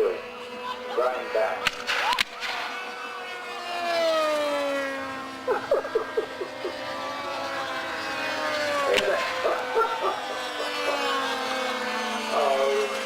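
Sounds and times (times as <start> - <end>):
model aircraft engine whine: 0.0 - 13.0.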